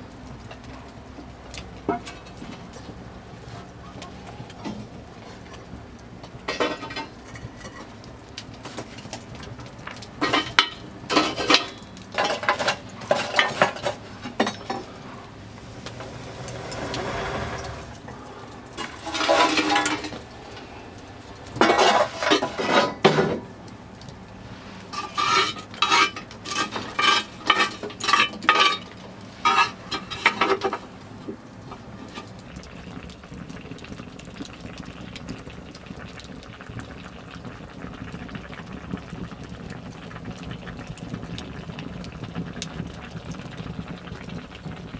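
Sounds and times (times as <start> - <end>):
low background noise: 0.0 - 44.9.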